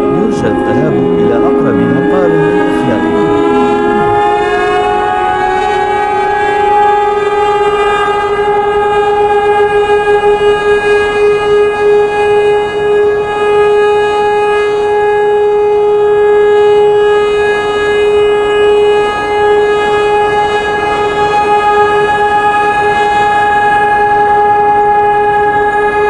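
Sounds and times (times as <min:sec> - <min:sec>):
civil defense siren steady tone: 0:00.0 - 0:26.0.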